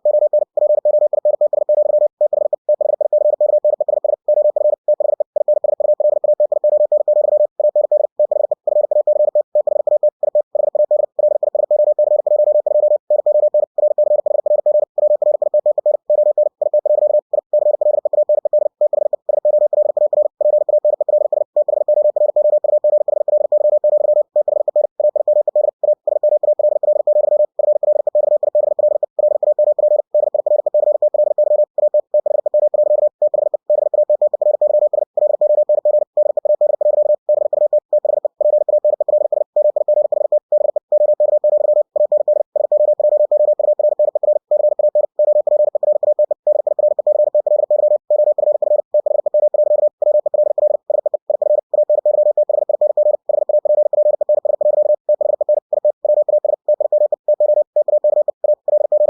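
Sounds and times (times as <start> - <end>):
morse code tone: 0.0 - 59.0.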